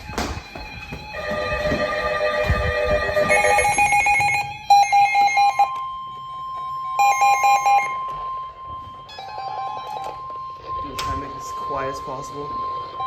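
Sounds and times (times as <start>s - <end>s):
steady warning alarm tone: 0.5s - 13.0s
electronic alarm beeping: 0.6s - 13.0s.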